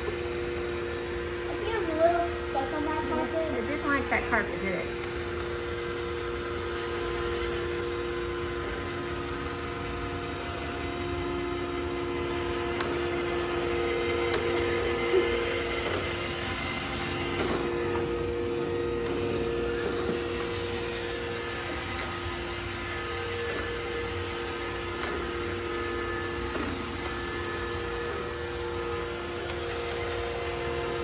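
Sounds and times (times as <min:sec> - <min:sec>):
robot vacuum motor hum: 0:00.0 - 0:31.0.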